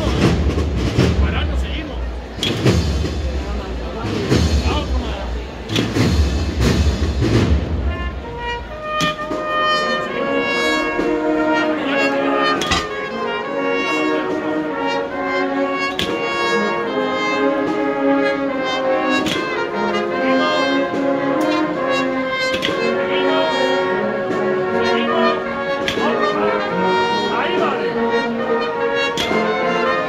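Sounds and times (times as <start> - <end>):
drum strokes: 0.0 - 11.8, 12.5 - 29.9
brass band playing a march: 0.0 - 30.0.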